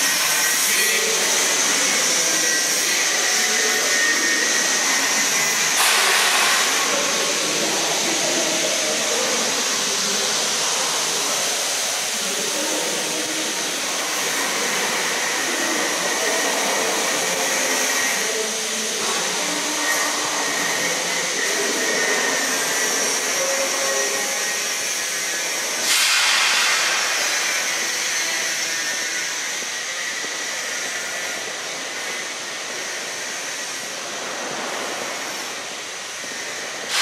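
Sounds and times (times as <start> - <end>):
machine whirring: 0.0 - 37.0.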